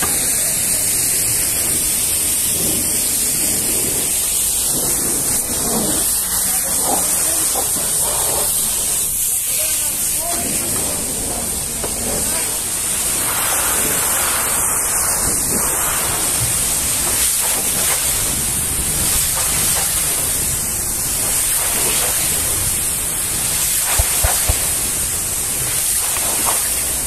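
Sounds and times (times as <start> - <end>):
pressure washer spraying: 0.0 - 27.0.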